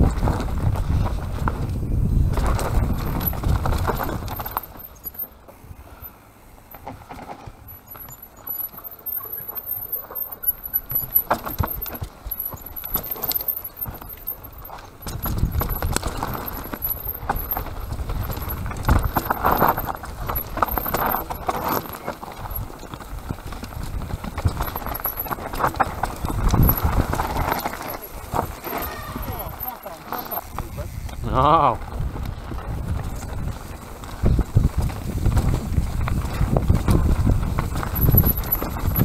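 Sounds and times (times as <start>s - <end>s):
bike rattling and knocking: 0.0s - 39.0s
bike tyres crunching over dirt: 0.0s - 39.0s.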